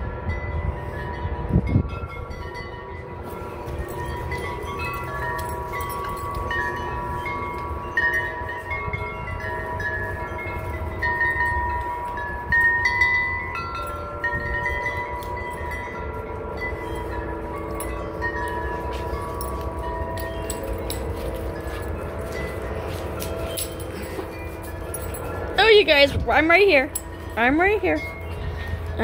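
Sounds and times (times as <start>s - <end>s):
wind chimes ringing: 0.0s - 29.0s.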